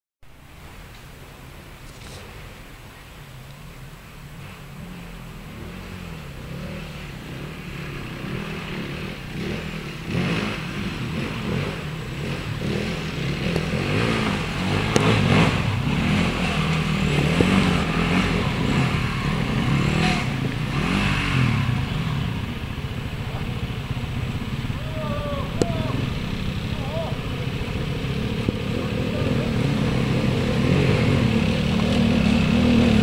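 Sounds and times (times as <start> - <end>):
trail motorcycles revving: 0.6 - 33.0.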